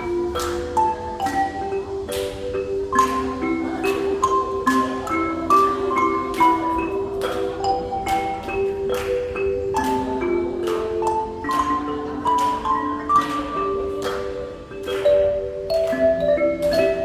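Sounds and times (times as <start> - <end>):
ocarina ensemble melody: 0.0 - 17.0
ringing mallet percussion: 0.0 - 17.0.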